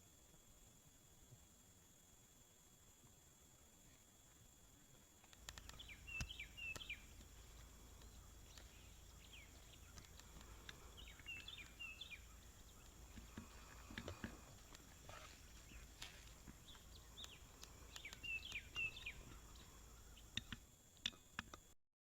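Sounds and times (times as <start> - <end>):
songbird chirping: 3.0 - 21.6.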